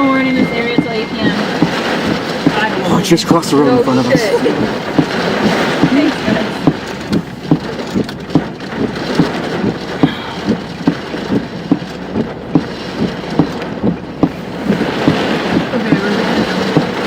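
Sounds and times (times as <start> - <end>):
rhythmic thumping in vehicle: 0.0 - 17.0
vehicle cabin noise: 0.0 - 17.0.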